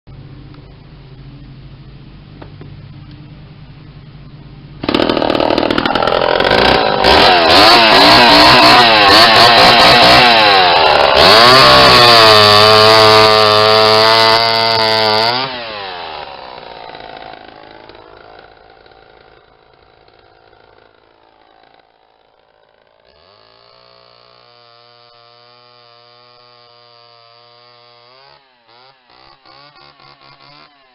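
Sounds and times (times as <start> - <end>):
chainsaw revving: 4.8 - 30.9.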